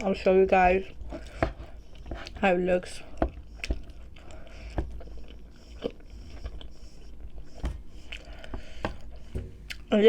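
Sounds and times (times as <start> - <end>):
person chewing food: 0.7 - 9.9.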